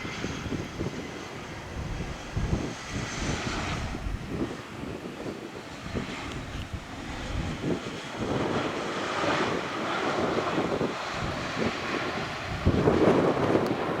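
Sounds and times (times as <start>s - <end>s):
jet engine rush: 0.0s - 14.0s.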